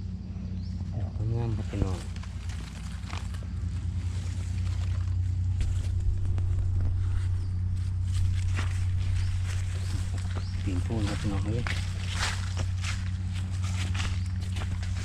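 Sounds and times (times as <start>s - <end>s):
steady low hum: 0.0s - 15.0s
footsteps on leaf litter: 1.3s - 15.0s.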